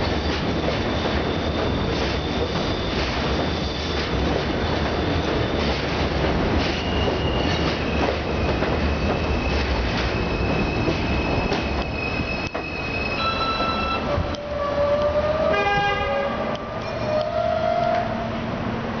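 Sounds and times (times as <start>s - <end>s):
train brakes squealing: 0.0s - 15.9s, 16.6s - 18.3s
subway train rumble: 0.0s - 19.0s.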